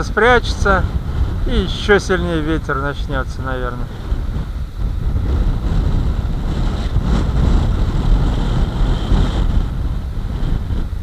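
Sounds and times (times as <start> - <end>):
sea waves breaking: 0.0 - 11.0
strong wind buffeting microphone: 0.0 - 11.0.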